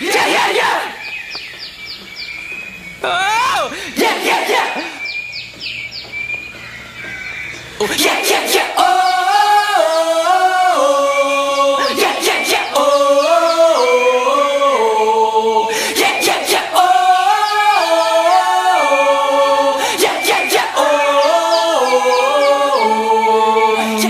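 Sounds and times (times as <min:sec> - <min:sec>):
a cappella vocal harmonies: 0:00.0 - 0:01.2, 0:03.0 - 0:05.2, 0:07.8 - 0:24.0.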